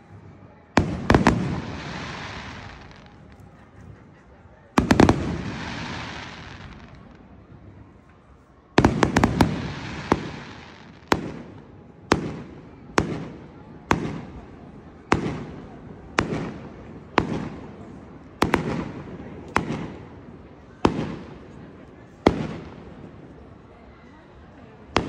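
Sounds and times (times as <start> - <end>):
fireworks bangs: 0.7 - 3.6, 4.8 - 7.8, 8.8 - 23.5.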